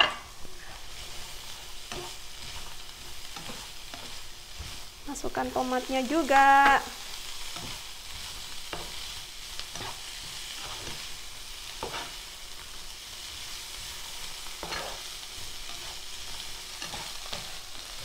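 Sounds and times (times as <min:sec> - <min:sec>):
spatula scraping and knocking pan: 0:00.0 - 0:05.3, 0:06.6 - 0:12.3, 0:13.7 - 0:18.0
vegetables sizzling in a pan: 0:00.0 - 0:18.0.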